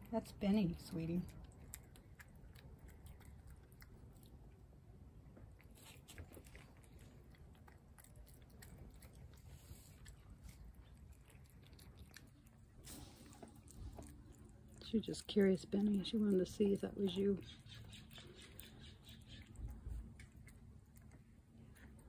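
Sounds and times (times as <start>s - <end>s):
cat chewing and lip-smacking: 0.0s - 22.0s.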